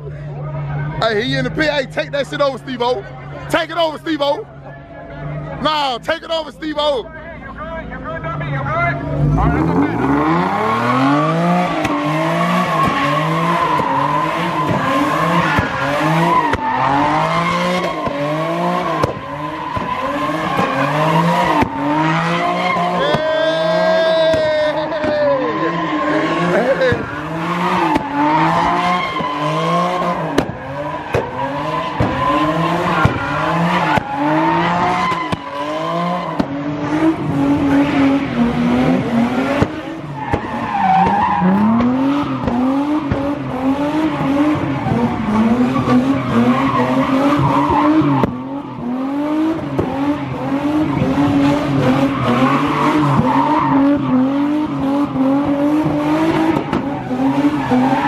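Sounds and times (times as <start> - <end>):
car engine revving: 0.0 - 58.0
tires squealing: 0.0 - 58.0.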